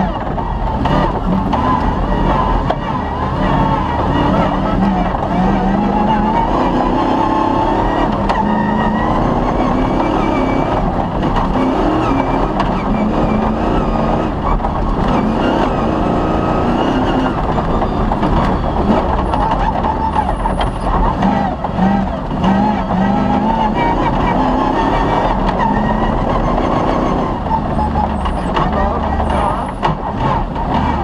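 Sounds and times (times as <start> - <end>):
rally car engine revving: 0.0 - 31.0
tyres on gravel rumble: 0.0 - 31.0.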